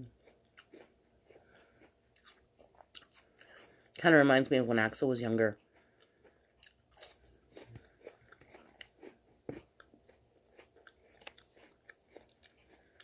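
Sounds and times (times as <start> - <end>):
person crunching an apple: 0.0 - 4.0, 5.3 - 13.0.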